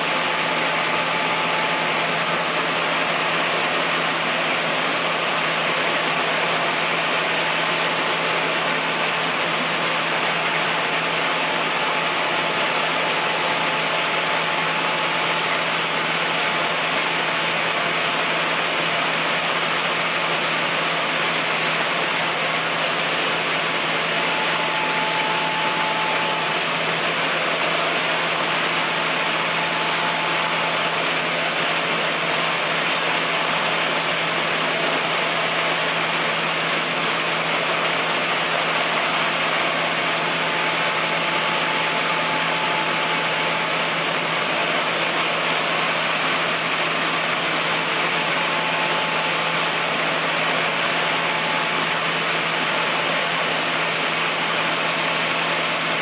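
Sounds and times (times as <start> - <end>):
chainsaw mill engine cutting: 0.0 - 56.0.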